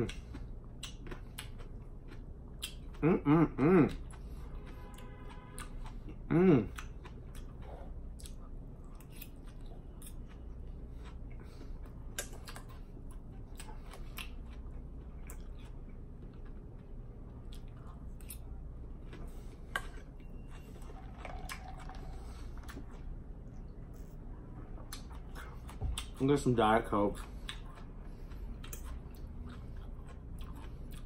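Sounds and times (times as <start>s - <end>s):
chewing and crunching salad: 0.0s - 31.0s.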